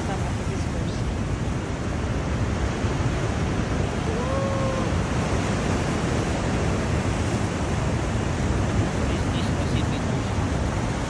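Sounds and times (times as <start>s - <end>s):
ocean surf breaking over rocks: 0.0s - 11.0s.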